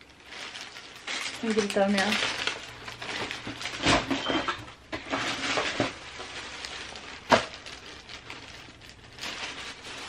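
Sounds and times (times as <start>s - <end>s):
paper bag rustling and crinkling: 0.0s - 10.0s.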